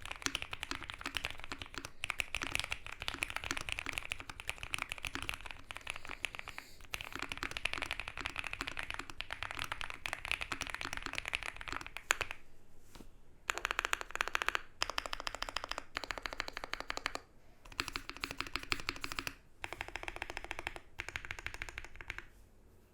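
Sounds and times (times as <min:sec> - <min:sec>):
fast typing on keyboard: 0:00.0 - 0:12.4, 0:13.5 - 0:22.3.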